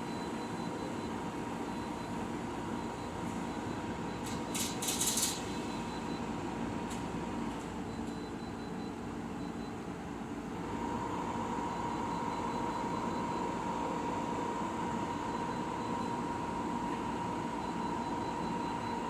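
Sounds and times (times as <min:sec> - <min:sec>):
air conditioner high whine: 0:00.0 - 0:19.0.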